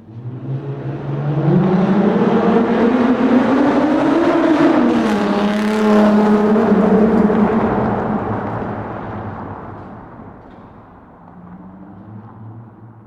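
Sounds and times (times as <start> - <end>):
car engine in tunnel: 0.0 - 13.0.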